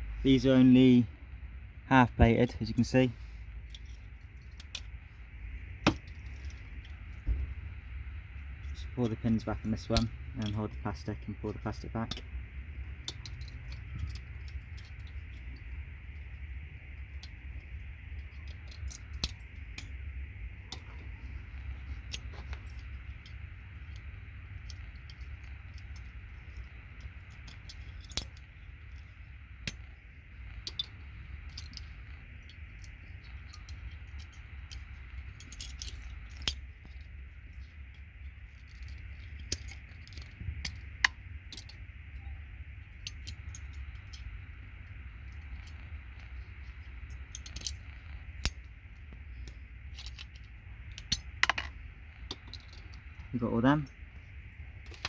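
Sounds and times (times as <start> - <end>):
steady low hum: 0.0 - 55.0
connector pins clicking and clinking: 1.9 - 55.0.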